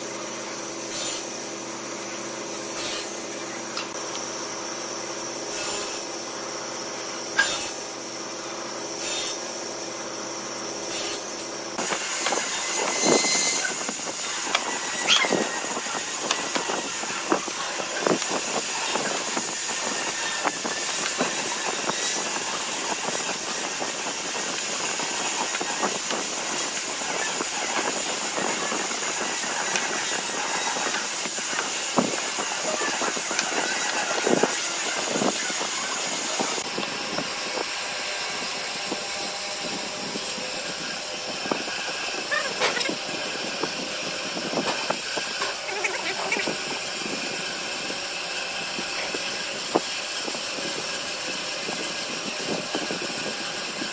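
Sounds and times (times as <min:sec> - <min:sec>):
table saw cutting wood: 0:00.0 - 0:53.9.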